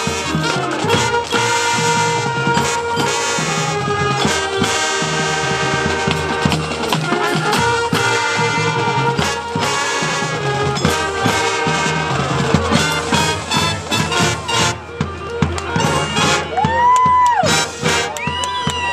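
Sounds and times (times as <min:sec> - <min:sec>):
brass chords: 0:00.0 - 0:16.8, 0:17.4 - 0:18.3
drumline beating: 0:00.0 - 0:18.9.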